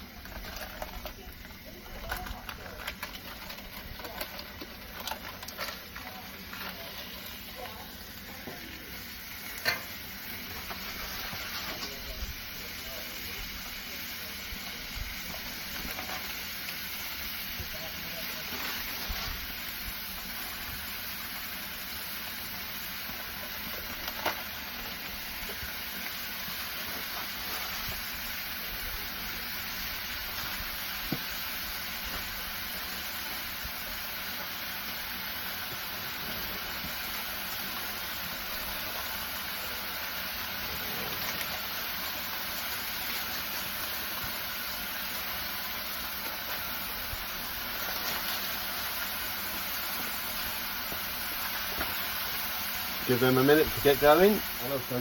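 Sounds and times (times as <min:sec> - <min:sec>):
meat sizzling on a griddle: 0:00.0 - 0:55.0.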